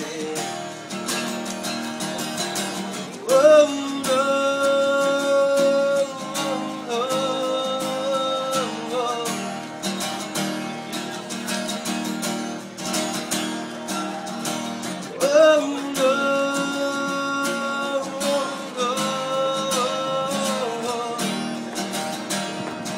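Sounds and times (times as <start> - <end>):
strummed acoustic guitar: 0.0 - 22.9.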